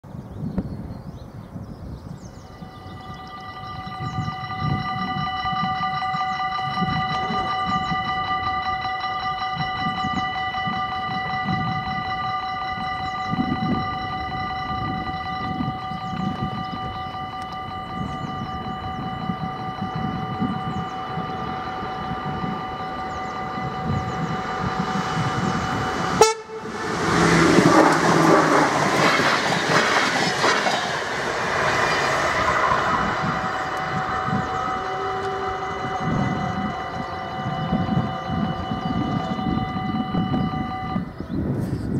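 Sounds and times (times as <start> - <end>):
electric train passing: 2.3 - 41.5
level crossing bells ringing: 2.5 - 41.1.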